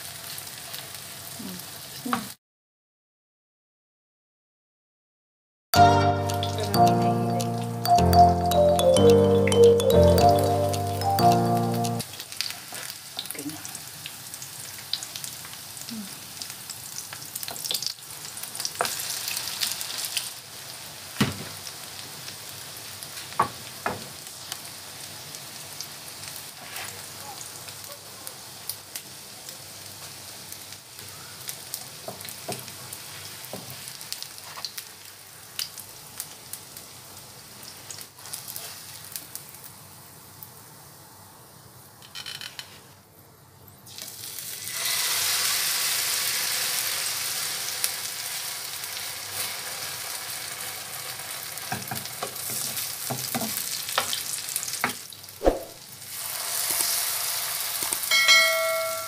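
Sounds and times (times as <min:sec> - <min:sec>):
patties sizzling in hot oil: 0:00.0 - 0:02.4, 0:10.4 - 0:42.0, 0:43.7 - 0:58.5.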